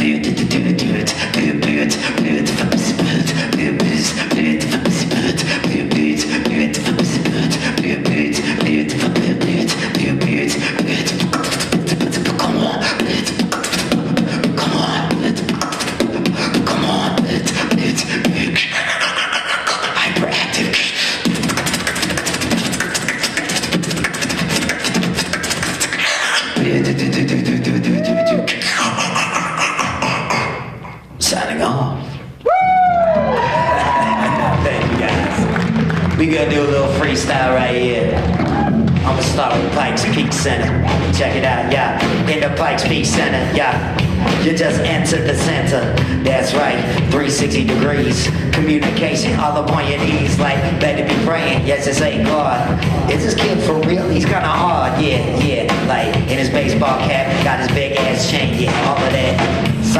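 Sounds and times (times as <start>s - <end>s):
vocal glide: 0.0s - 31.2s, 34.0s - 59.9s
man beatboxing: 0.0s - 59.9s.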